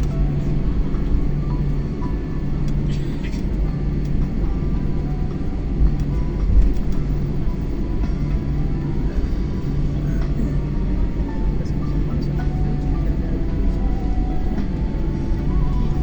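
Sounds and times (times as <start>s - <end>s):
jet engines at low thrust: 0.0s - 16.0s.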